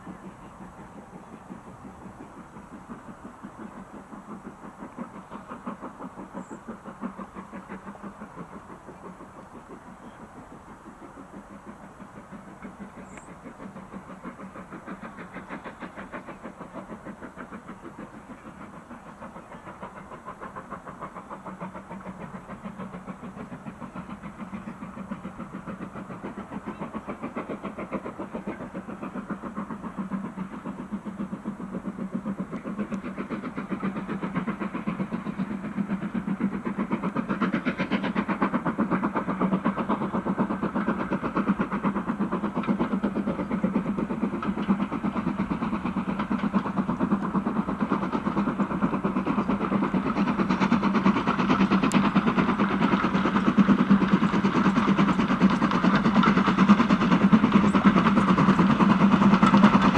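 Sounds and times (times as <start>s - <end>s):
steam locomotive exhaust beating: 0.0s - 59.9s.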